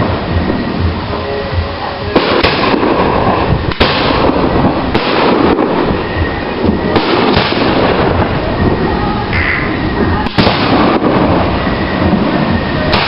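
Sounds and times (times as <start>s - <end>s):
fireworks bursting: 0.0s - 13.0s
sharp fireworks bangs: 0.0s - 13.0s.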